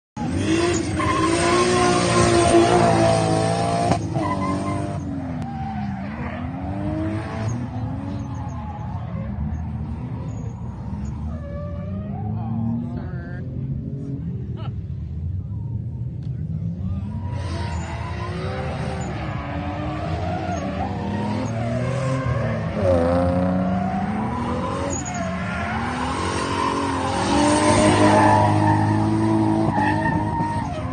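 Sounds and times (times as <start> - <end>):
car engine revving: 0.2 - 30.9
tyres skidding: 0.2 - 30.9.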